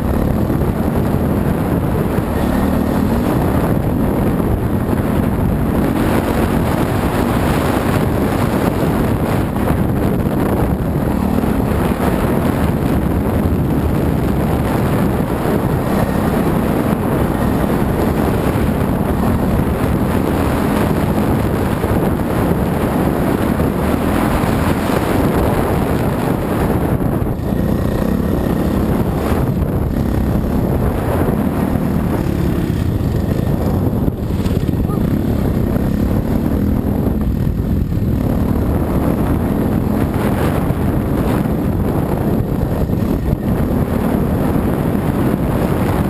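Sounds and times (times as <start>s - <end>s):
dirt bike engine running: 0.0s - 46.0s
wind buffeting microphone: 0.0s - 46.0s.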